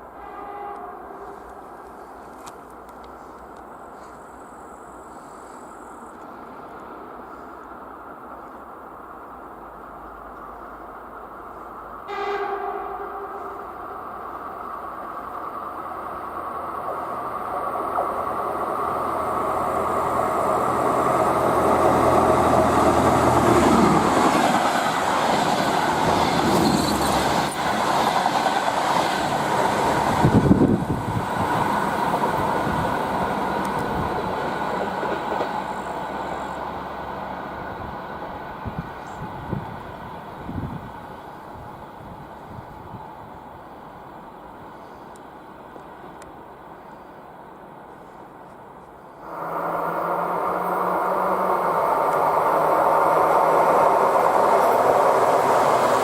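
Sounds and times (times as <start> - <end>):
train engine drone: 0.0 - 56.0
wheels rushing on rail: 0.0 - 56.0.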